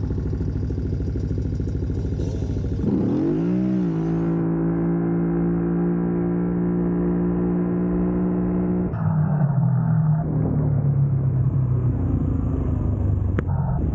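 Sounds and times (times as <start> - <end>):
atv engine running: 0.0 - 9.0, 10.1 - 13.9.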